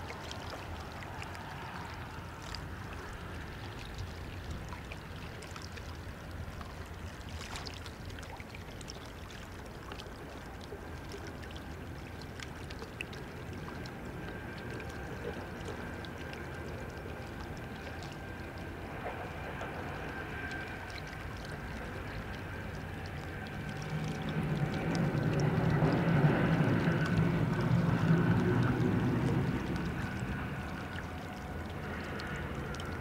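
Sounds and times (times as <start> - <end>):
river water lapping at bank: 0.0 - 33.0.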